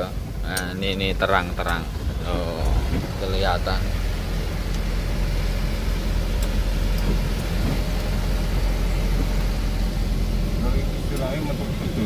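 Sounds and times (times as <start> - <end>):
diesel truck engine running: 0.0 - 12.0
road noise: 0.0 - 12.0.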